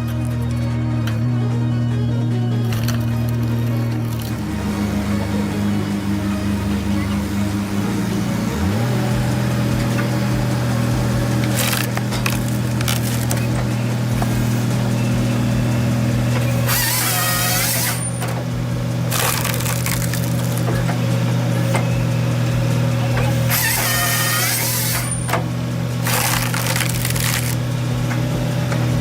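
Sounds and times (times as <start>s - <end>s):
steady engine hum: 0.0s - 29.0s
saw cutting through log: 2.4s - 29.0s.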